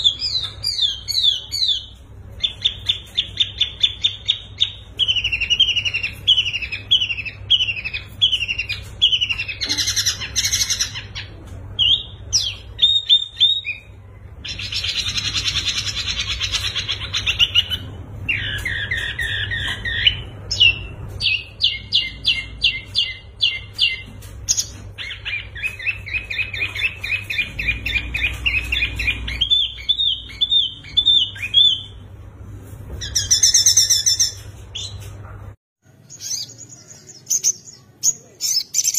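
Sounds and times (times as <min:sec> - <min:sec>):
songbirds singing and calling: 0:00.0 - 0:32.1, 0:32.9 - 0:35.2, 0:35.9 - 0:38.9.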